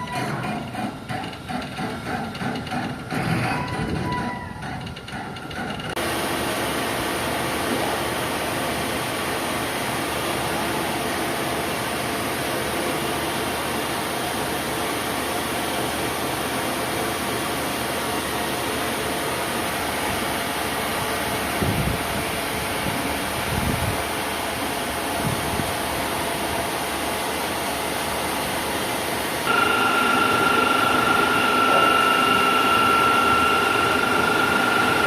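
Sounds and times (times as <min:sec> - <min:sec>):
machinery running with faint hum: 0:00.0 - 0:35.0.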